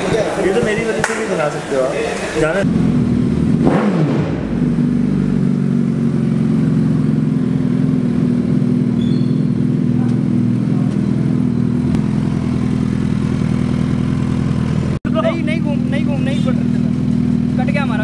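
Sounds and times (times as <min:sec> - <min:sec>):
motorcycle engine idling: 0:02.6 - 0:18.0.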